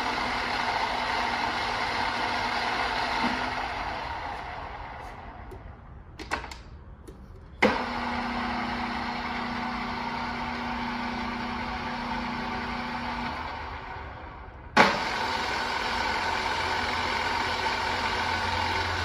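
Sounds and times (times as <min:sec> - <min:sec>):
drill press running: 0:00.0 - 0:05.7, 0:07.6 - 0:19.0.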